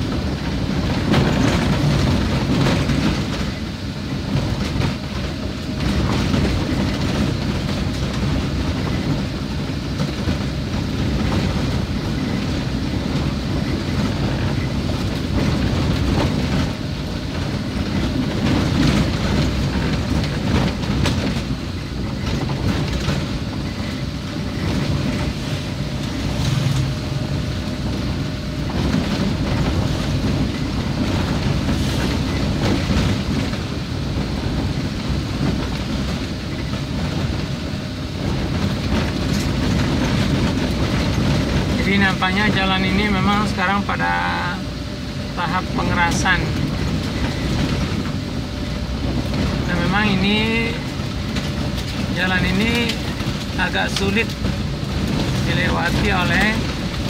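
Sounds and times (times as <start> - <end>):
rattles and knocks over bumps: 0.0 - 57.0
vehicle road rumble: 0.0 - 57.0.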